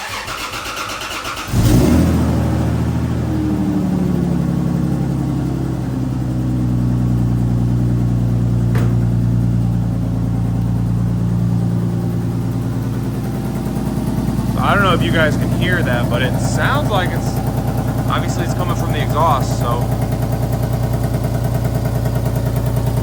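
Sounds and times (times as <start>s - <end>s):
car engine idling: 0.0s - 23.0s
exhaust leak ticking: 0.1s - 23.0s.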